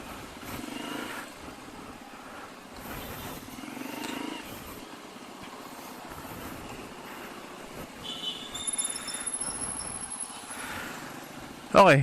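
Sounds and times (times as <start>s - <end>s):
small motorcycle engine running: 0.0s - 11.6s.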